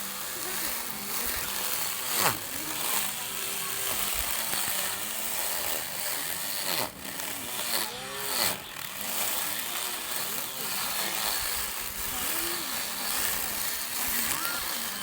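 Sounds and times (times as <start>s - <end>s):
lawn mower motor whining: 0.0s - 15.0s.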